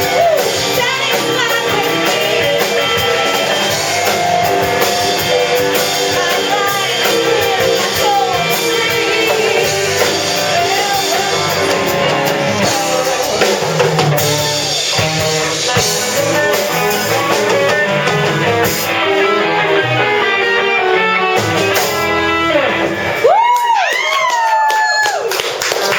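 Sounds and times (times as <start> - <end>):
guitar pitch bends: 0.0 - 23.2
rock band playing: 0.0 - 25.9.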